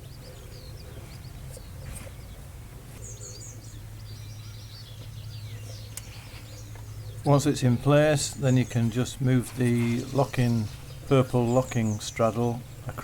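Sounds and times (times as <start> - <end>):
birds chirping and trilling: 0.0 - 13.0
steady low hum: 0.0 - 13.0.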